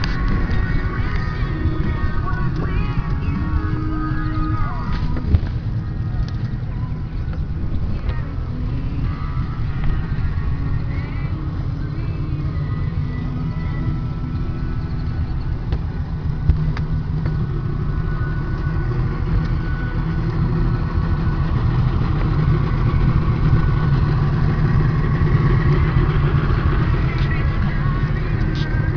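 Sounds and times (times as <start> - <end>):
outboard motor running: 0.0 - 28.9.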